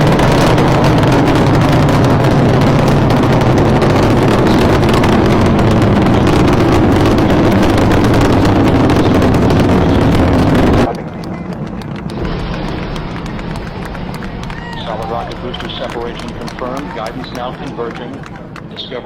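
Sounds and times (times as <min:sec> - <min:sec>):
rocket launch roar: 0:00.0 - 0:19.0.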